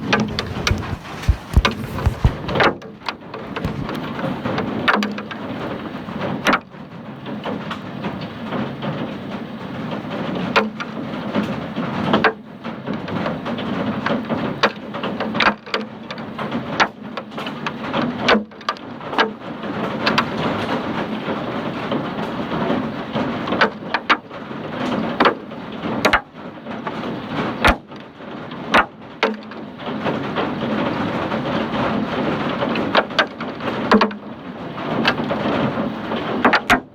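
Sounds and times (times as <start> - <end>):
hail and rain pelting down: 3.6 - 36.6.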